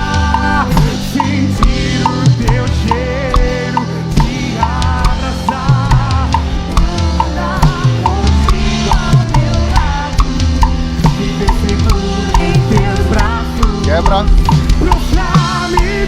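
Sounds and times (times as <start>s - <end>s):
kick and snare drum beat: 0.0s - 16.0s
worship band playing: 0.0s - 16.0s.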